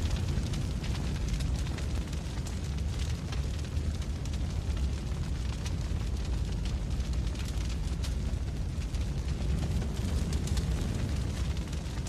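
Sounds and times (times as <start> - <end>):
fire crackling: 0.0 - 12.0
fire rumbling: 0.0 - 12.0.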